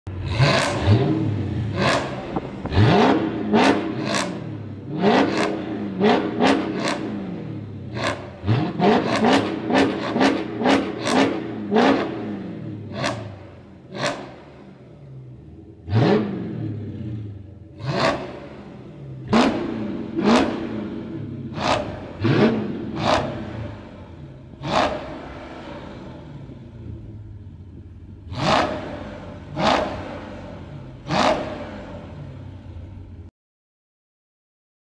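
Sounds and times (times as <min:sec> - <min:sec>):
car engine idling and revving: 0:00.0 - 0:33.3.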